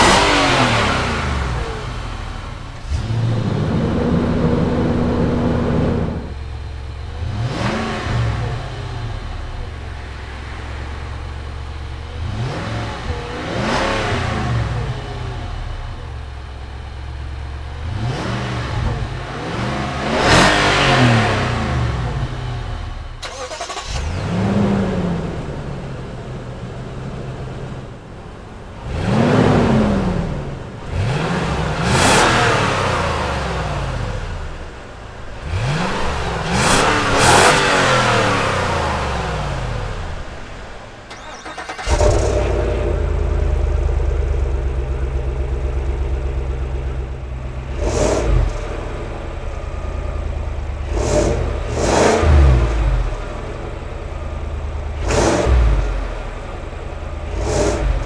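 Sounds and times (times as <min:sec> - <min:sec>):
engine exhaust idling and revving: 0:00.0 - 0:58.0.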